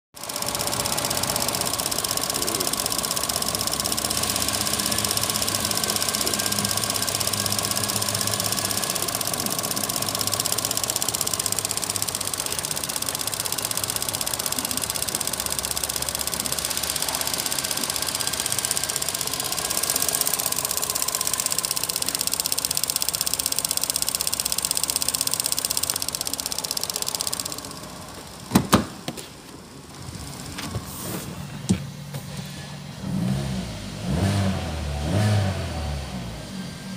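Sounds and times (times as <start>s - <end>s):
car engine idling: 0.2s - 30.8s.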